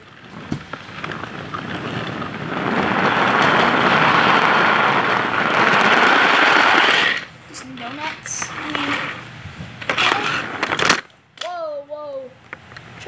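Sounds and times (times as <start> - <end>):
tyres rolling over wooden floor: 0.0 - 11.1
small electric motor and gears: 0.3 - 11.1.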